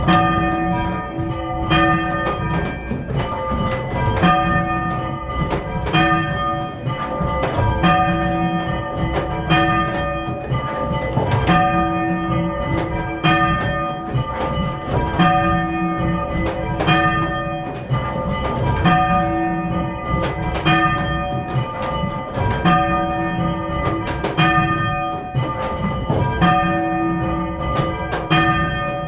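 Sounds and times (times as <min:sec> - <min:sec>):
church bells change ringing: 0:00.0 - 0:29.0.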